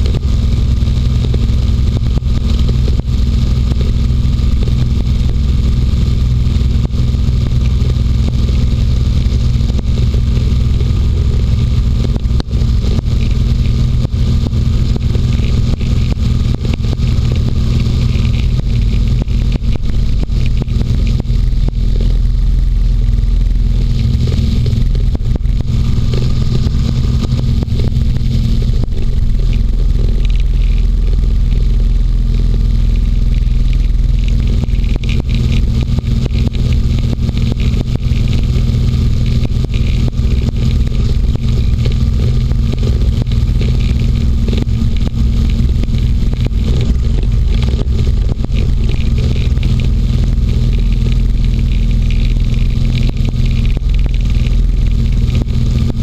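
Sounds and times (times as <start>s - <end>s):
hovercraft engine and propeller drone: 0.0s - 56.0s.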